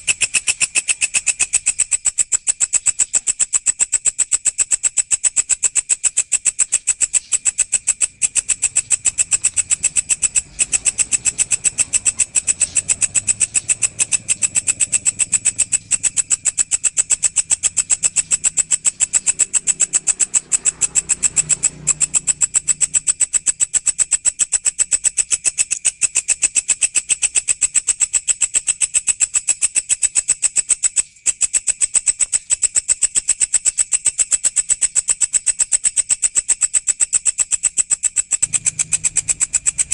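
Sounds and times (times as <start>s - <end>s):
insect high-pitched ticking call: 0.0s - 39.9s.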